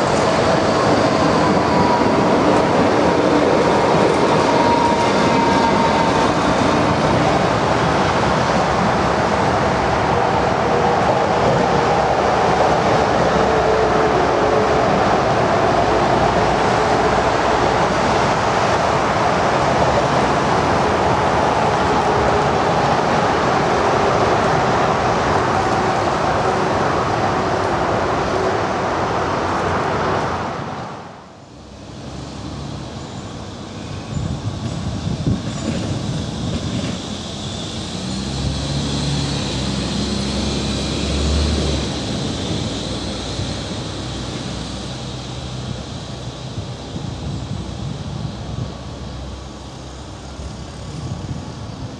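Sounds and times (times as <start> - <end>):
street traffic: 0.0 - 51.9
tram rolling on track: 0.0 - 51.9.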